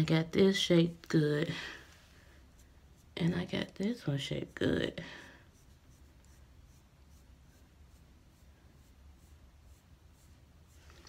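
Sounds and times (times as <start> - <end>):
light scratching of eyebrow tool: 2.1 - 11.0.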